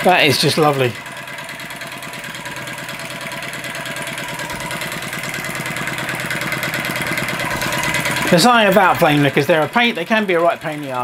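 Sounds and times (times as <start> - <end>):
small engine beating steadily: 0.0 - 11.0.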